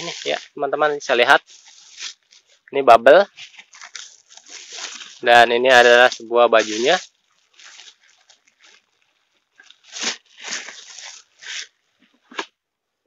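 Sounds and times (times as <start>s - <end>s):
plastic bag crinkling: 0.0s - 0.6s, 1.4s - 2.6s, 3.3s - 12.1s.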